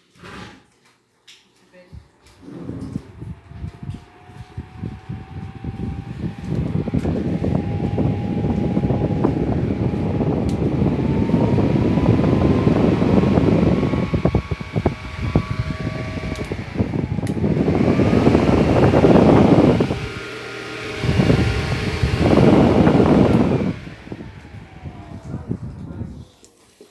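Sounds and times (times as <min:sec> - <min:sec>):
electric fan running: 0:01.8 - 0:26.3.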